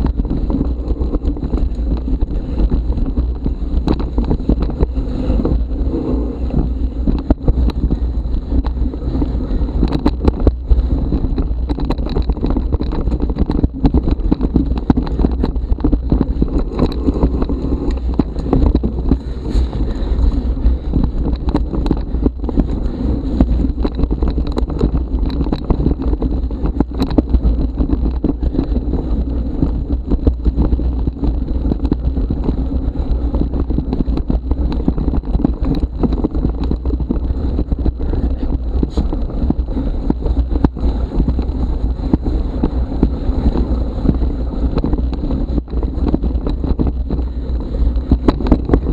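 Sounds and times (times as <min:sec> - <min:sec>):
bike rattles and knocks: 0:00.0 - 0:48.9
wind buffeting microphone: 0:00.0 - 0:48.9.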